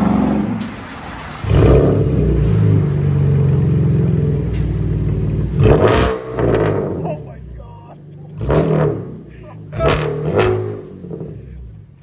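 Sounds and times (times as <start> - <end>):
loud car exhaust revving: 0.0 - 12.0.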